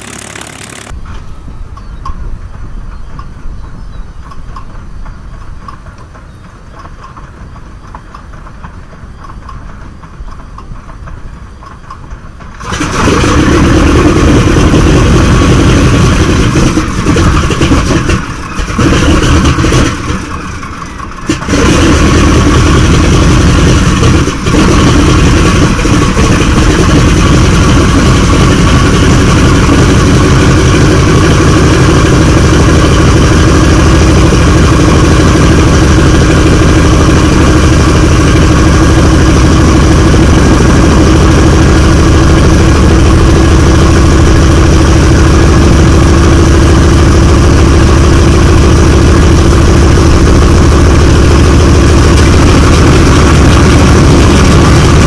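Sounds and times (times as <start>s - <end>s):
radial aircraft engines idling: 0.0s - 21.6s, 24.8s - 55.0s.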